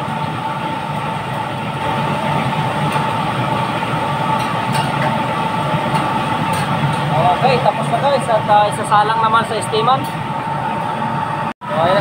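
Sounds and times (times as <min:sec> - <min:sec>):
machine humming drone: 0:00.0 - 0:12.0.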